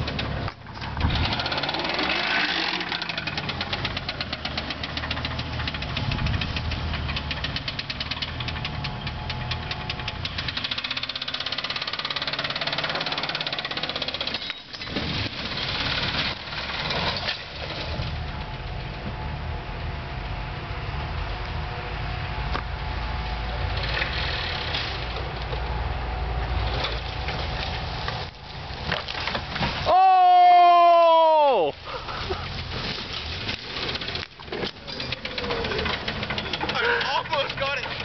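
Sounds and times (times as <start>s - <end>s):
car engine running under load: 0.0s - 29.9s, 31.7s - 38.0s.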